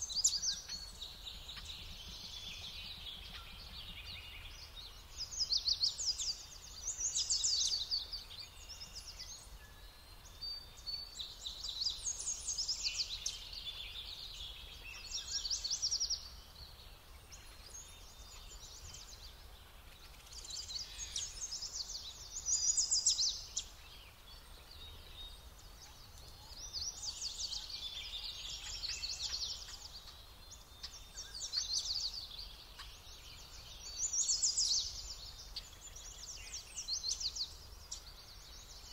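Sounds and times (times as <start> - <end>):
songbirds trilling: 0.0 - 38.9.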